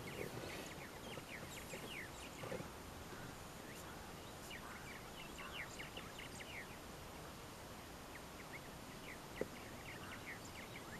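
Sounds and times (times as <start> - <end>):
birds chirping: 0.0 - 10.9.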